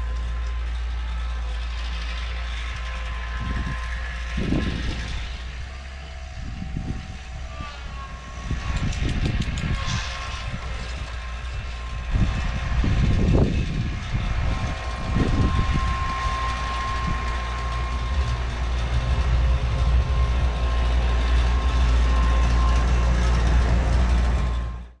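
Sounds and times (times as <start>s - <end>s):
motor running with whine: 0.0s - 25.0s.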